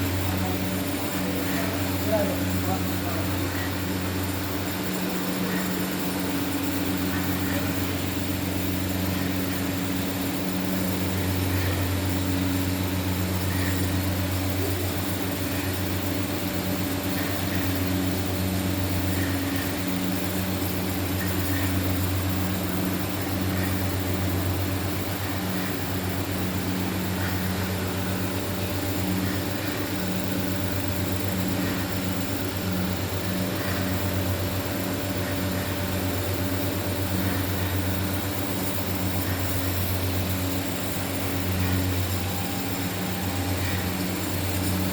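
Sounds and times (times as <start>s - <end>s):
machinery low hum: 0.0s - 44.9s.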